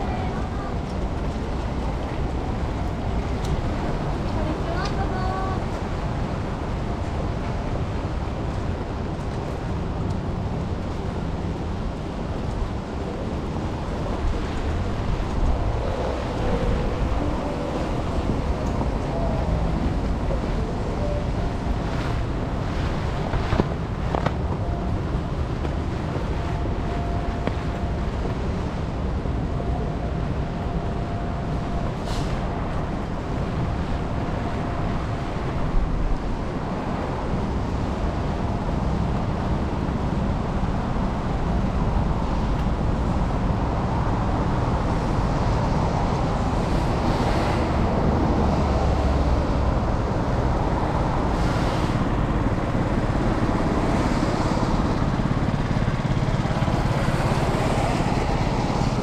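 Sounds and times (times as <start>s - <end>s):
tyres on wet road: 0.0s - 59.0s.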